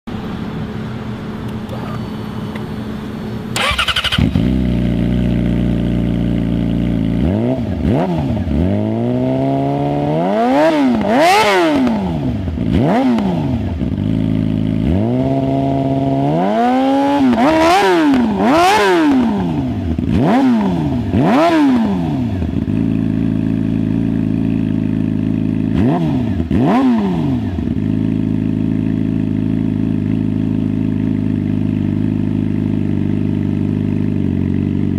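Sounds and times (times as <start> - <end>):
motorcycle engine revving: 0.4 - 34.9.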